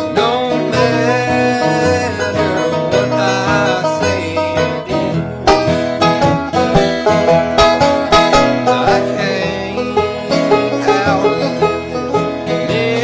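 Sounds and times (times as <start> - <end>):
acoustic guitar picking: 0.0 - 13.0
banjo picking: 0.0 - 13.0.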